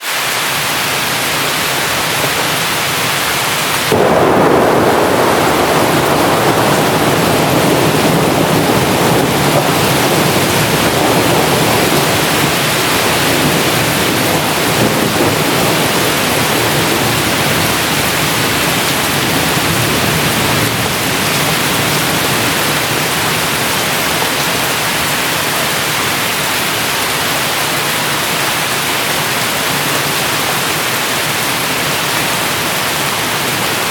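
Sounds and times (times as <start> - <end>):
heavy rain: 0.0 - 33.9
thunder rumbling: 1.0 - 31.4.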